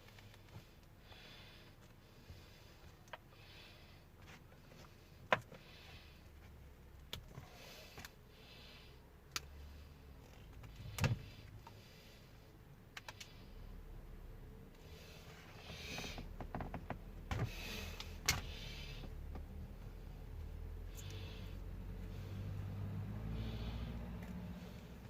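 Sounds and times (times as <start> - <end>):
soft breathing: 0.0 - 25.0.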